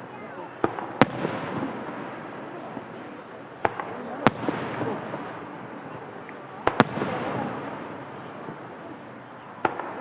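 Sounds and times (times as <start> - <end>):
fireworks bangs: 0.5 - 10.0.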